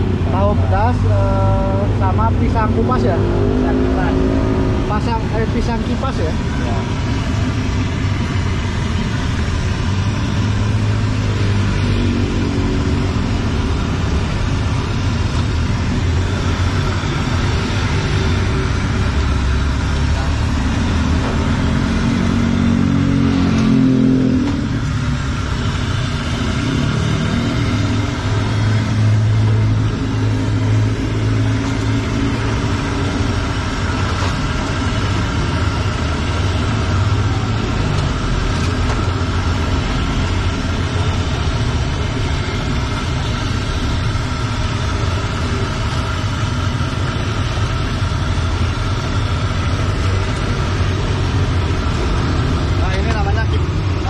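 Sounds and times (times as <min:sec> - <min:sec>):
food deep-frying in hot oil: 0:00.0 - 0:54.0
motorbikes and cars passing: 0:00.0 - 0:54.0.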